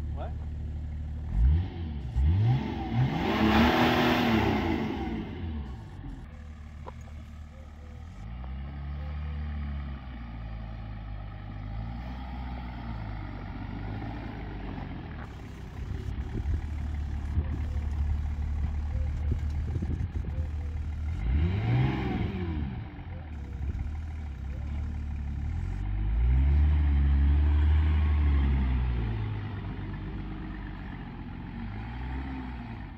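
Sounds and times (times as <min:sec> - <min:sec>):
diesel engine revving: 0:00.0 - 0:32.9.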